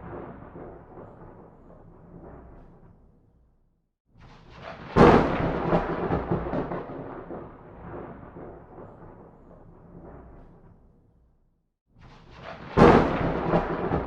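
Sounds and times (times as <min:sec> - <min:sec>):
thunder crack and rumble: 0:00.0 - 0:03.3, 0:04.4 - 0:11.0, 0:12.2 - 0:14.0.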